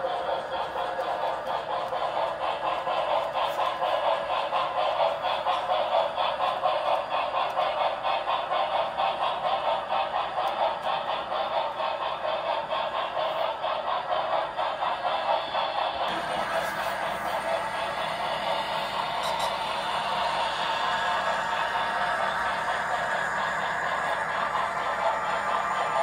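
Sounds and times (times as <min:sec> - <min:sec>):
model train rattling clatter: 0:00.0 - 0:26.0.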